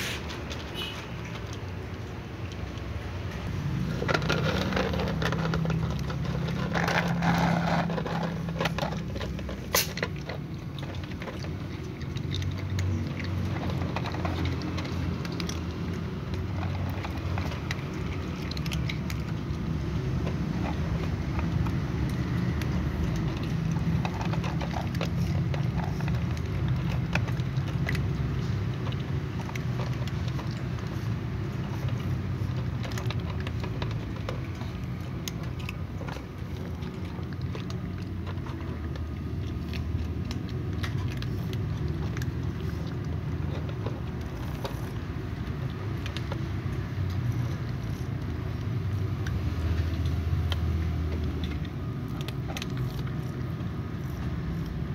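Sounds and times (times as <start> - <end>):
cats crunching dry kibble: 0.0 - 54.9.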